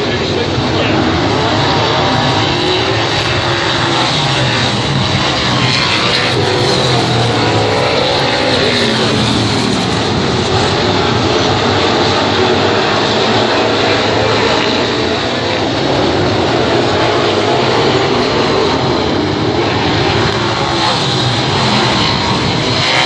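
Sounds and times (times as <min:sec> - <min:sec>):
race car engines running hard: 0:00.0 - 0:23.0.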